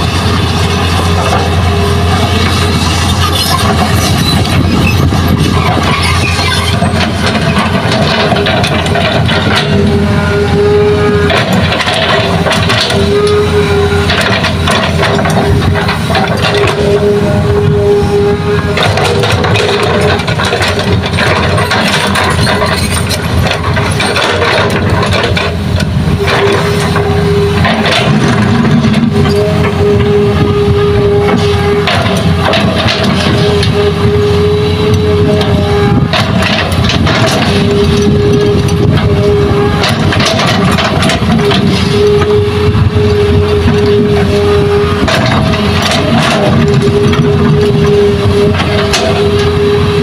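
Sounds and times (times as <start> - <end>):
excavator diesel engine running: 0.0 - 50.0
steady whining tone: 0.0 - 50.0.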